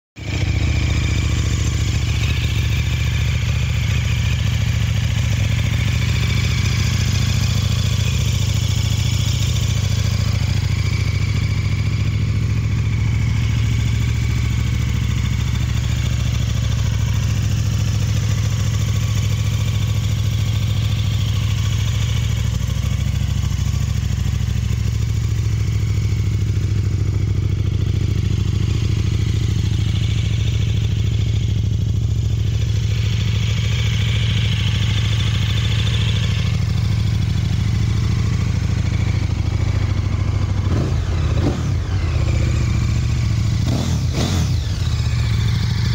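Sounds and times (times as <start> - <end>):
motorcycle engine idling: 0.2 - 45.9.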